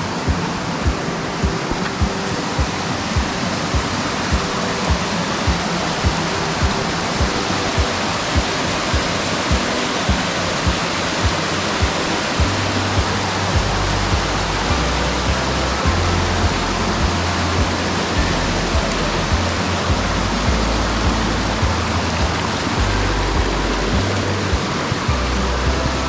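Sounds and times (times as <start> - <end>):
background music with beat: 0.0 - 26.0
stream water rushing: 0.0 - 26.0
sustained bass line: 3.1 - 26.0.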